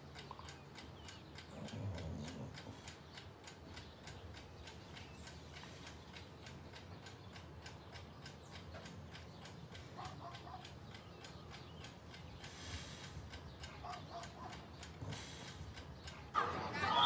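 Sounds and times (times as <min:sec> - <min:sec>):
steady ticking: 0:00.0 - 0:17.0.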